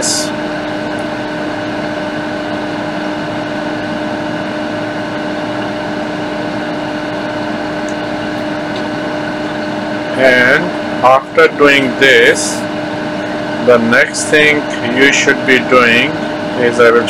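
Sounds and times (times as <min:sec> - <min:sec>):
machine hum with pitched tones: 0:00.0 - 0:17.0.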